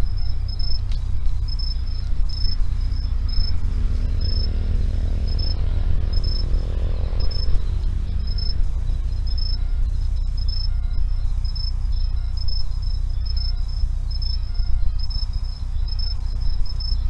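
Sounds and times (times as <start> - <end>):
faint low drone: 0.0 - 17.0
insects chirping: 0.0 - 17.0
steady low rumble: 0.0 - 17.0.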